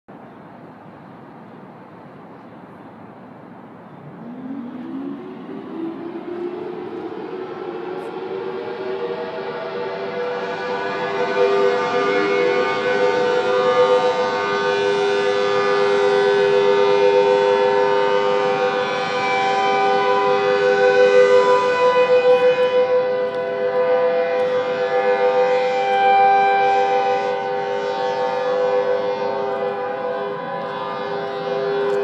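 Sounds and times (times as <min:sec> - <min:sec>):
warning sirens: 0:02.2 - 0:32.0.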